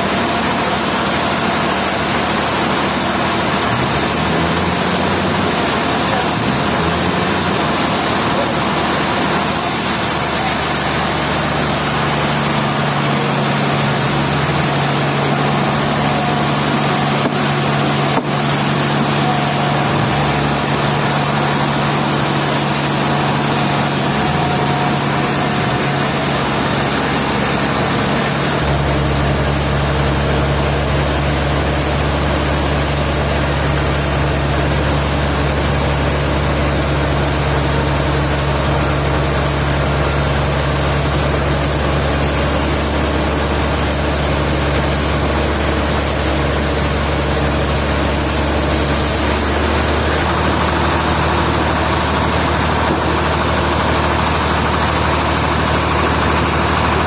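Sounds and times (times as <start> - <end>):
machinery engine humming: 0.0 - 57.0.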